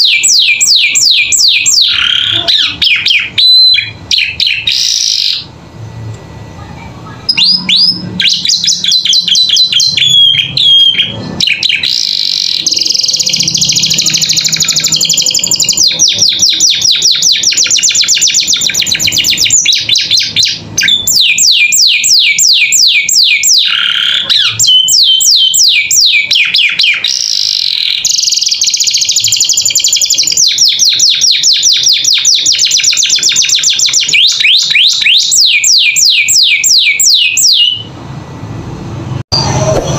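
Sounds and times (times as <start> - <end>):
canary singing trills: 0.0 - 5.6, 6.5 - 37.9.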